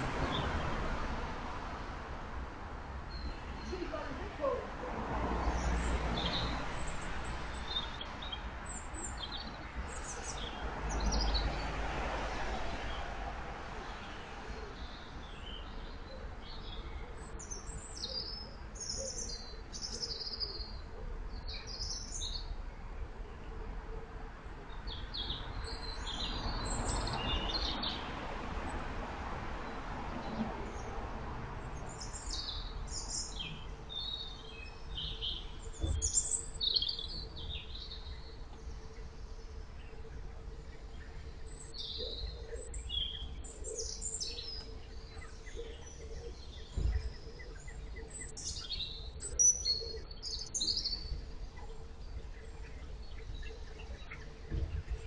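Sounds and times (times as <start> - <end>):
songbirds chirping and singing: 2.8 - 55.0.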